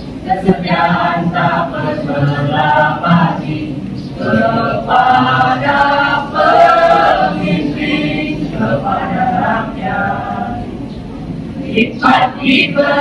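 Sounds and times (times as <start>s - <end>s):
children's choir singing: 0.0s - 10.9s, 11.6s - 13.0s.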